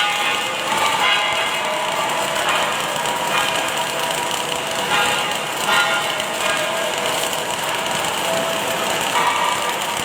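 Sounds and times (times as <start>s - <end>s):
welding machinery hissing and crackling: 0.0s - 10.0s.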